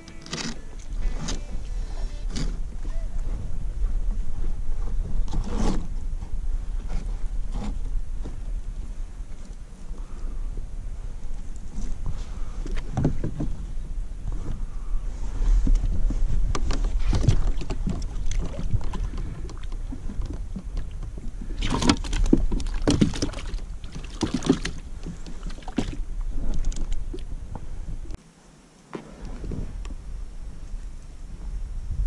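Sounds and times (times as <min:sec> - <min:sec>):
wind rumble on microphone: 0:00.0 - 0:28.2, 0:29.1 - 0:32.0.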